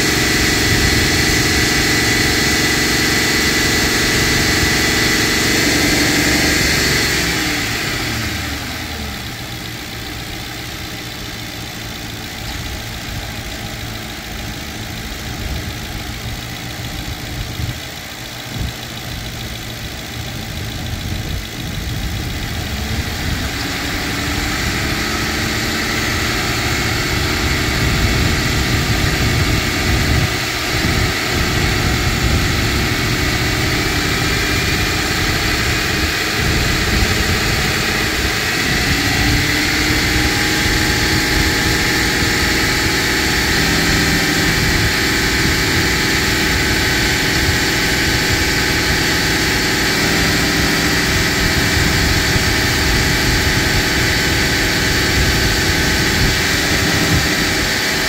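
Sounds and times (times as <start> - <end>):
car engine revving: 0.0 - 58.0
steady whine: 0.0 - 58.0.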